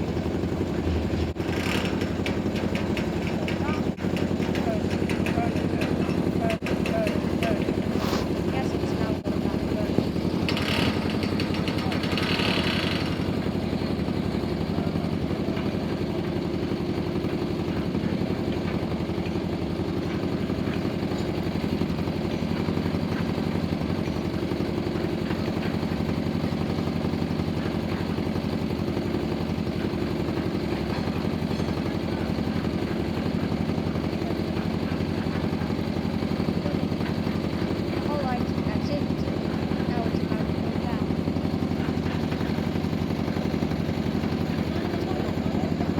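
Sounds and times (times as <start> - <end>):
diesel engine chugging: 0.0 - 45.9.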